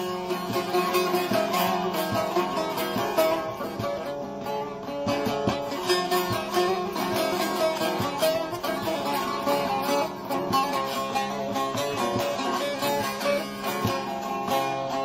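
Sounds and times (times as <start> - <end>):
plucked long-necked lute melody: 0.0 - 15.0.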